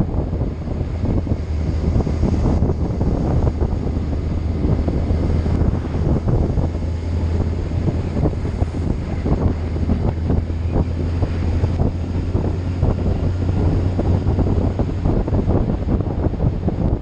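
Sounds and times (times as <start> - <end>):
low vehicle engine drone: 0.0 - 17.0
wind buffeting microphone: 0.0 - 17.0.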